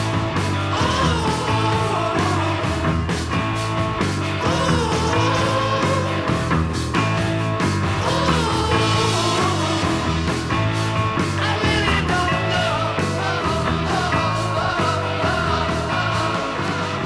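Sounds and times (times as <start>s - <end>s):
rock song with singing: 0.0s - 17.0s.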